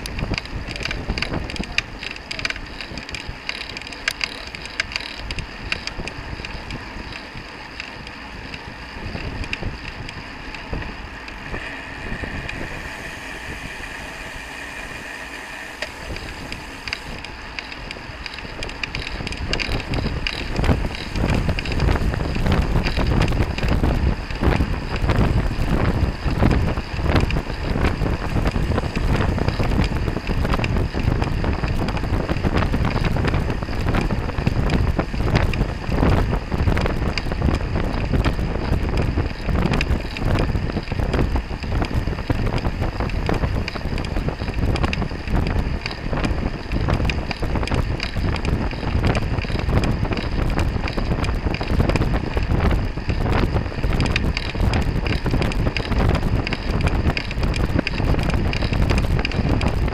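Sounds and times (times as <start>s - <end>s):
road noise rushing: 0.0s - 59.9s
wind buffeting microphone: 0.0s - 59.9s.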